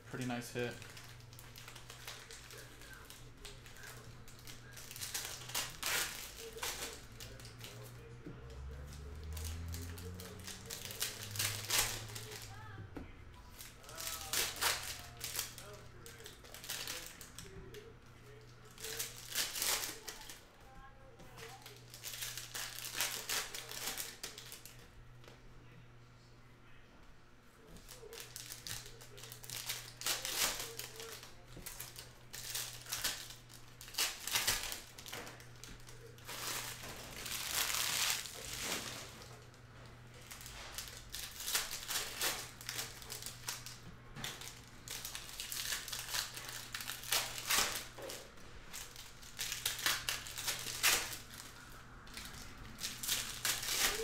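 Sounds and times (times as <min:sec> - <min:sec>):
foil wrappers crinkling and tearing: 0:00.1 - 0:12.8, 0:13.4 - 0:24.9, 0:27.6 - 0:54.0.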